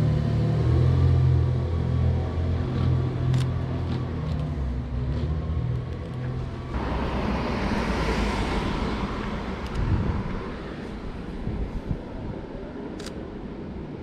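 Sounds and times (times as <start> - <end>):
car passing: 0.7 - 12.0.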